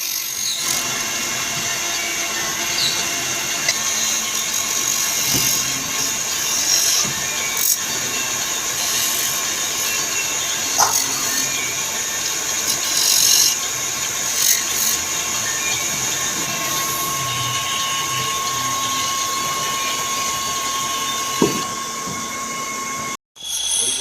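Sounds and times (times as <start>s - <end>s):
power tool working wood: 0.0s - 24.0s
thin steady whine: 0.4s - 24.0s.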